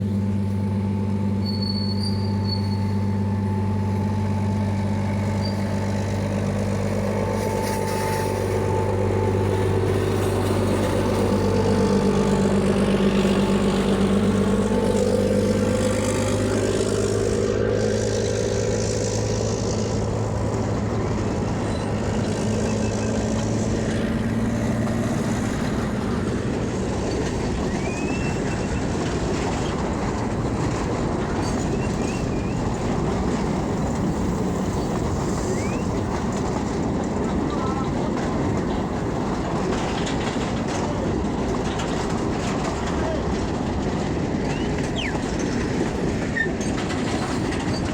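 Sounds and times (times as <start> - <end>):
diesel locomotive engine drone: 0.0 - 47.9
rumble of train wagons: 0.0 - 47.9
high wheel squeal: 0.3 - 26.3, 27.0 - 36.6, 44.4 - 47.9.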